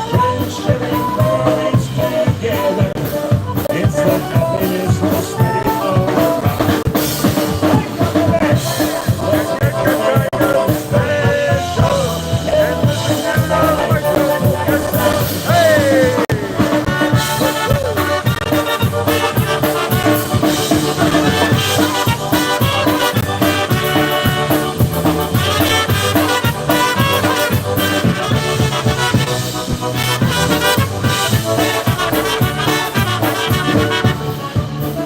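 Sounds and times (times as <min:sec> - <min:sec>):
polka band playing: 0:00.0 - 0:35.0.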